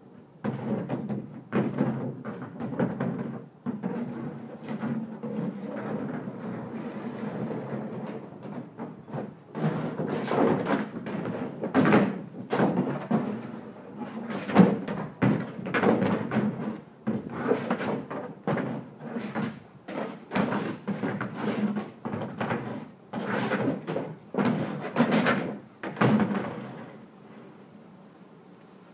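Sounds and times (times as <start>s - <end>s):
plastic pool thumps and scrapes: 0.4s - 27.0s.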